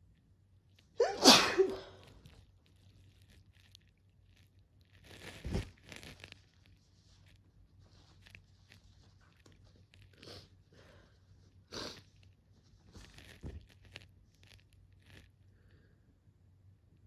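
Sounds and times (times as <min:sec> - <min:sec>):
rustling and clicking handling noises: 0:02.0 - 0:15.8.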